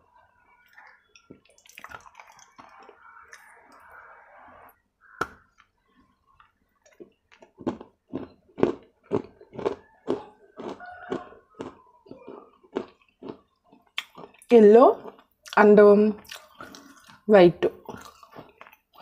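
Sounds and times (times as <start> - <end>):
crunchy chewing: 0.5 - 4.0, 5.0 - 15.6, 16.2 - 19.0.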